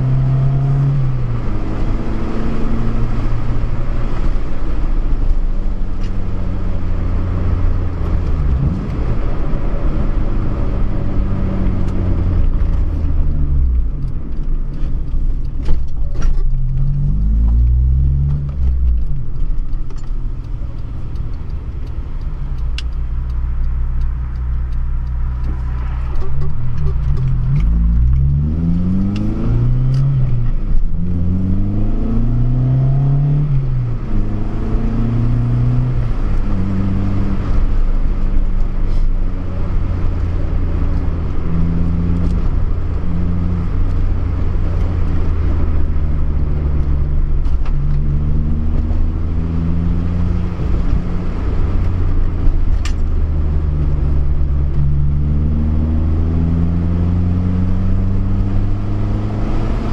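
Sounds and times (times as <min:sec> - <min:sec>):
car engine shifting gears: 0:00.0 - 0:59.9.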